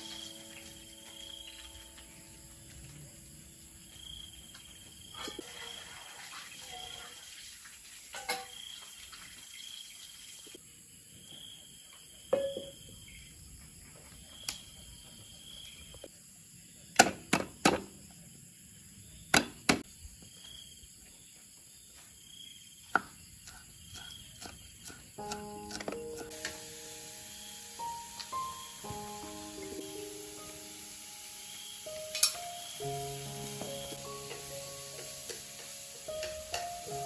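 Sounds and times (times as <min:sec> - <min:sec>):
crickets and insects chirping: 0:00.0 - 0:05.8, 0:08.3 - 0:17.0, 0:17.9 - 0:37.0.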